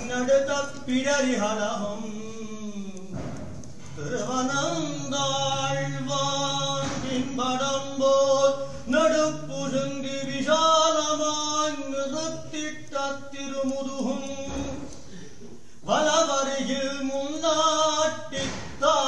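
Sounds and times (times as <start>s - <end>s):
man chanting a hymn: 0.0s - 19.0s.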